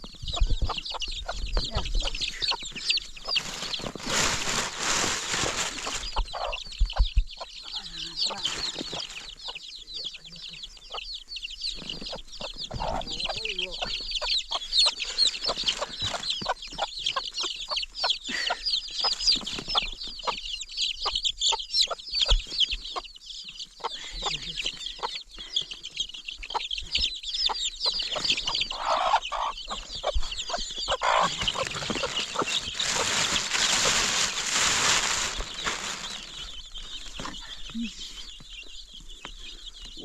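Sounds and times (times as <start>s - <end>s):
birds chirping and clucking: 0.0s - 40.0s.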